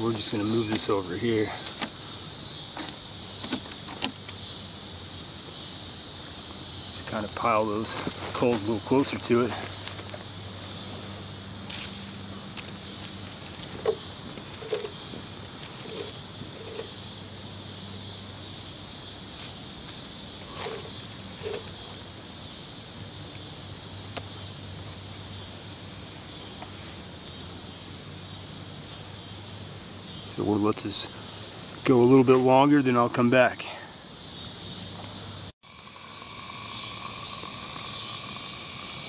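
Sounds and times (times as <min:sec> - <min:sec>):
campfire coals crackling: 0:00.0 - 0:39.0
insects chirring: 0:00.0 - 0:39.0.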